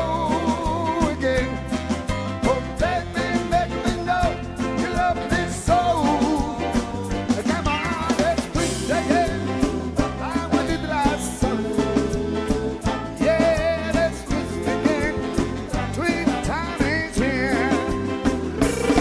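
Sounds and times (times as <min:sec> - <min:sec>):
bass line: 0:00.0 - 0:19.0
bending lead guitar line: 0:00.0 - 0:19.0
rock band playing live: 0:00.0 - 0:19.0
steady drum beat: 0:00.0 - 0:19.0.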